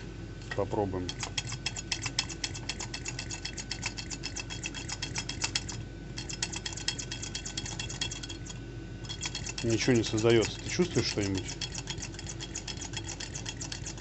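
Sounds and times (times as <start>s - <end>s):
vacuum pump clicking: 0.4s - 14.0s.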